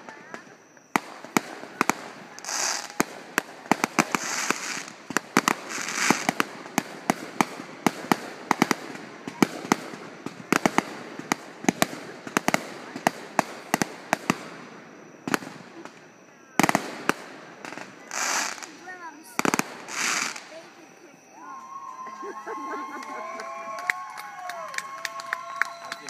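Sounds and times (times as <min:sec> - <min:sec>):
hissing crackle: 0:00.0 - 0:22.0
fireworks bangs: 0:00.0 - 0:26.0.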